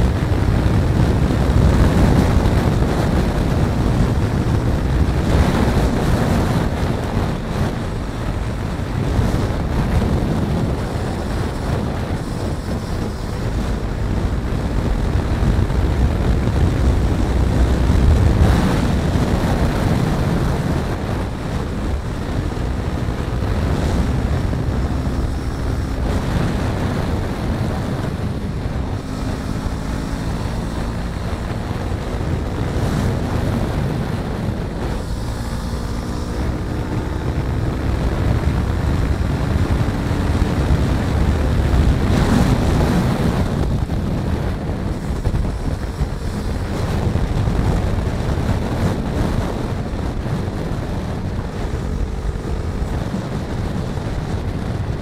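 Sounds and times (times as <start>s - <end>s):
motorcycle engine accelerating: 0.0s - 55.0s
wind buffeting microphone: 0.0s - 55.0s.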